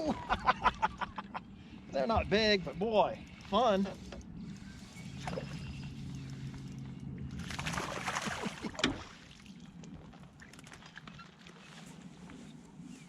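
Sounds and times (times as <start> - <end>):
boat motor humming: 0.0 - 12.9
water splashing and sloshing: 2.0 - 12.8.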